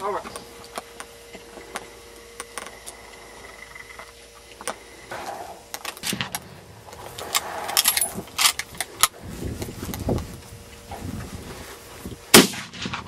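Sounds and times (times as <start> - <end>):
handling clicks and rustles: 0.0 - 12.3
faint steady hum: 0.0 - 13.0.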